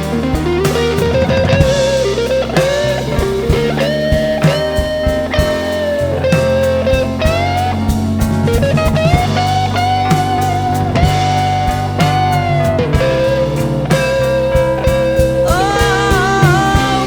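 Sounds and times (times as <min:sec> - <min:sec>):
bass: 0:00.0 - 0:17.0
drum kit: 0:00.0 - 0:17.0.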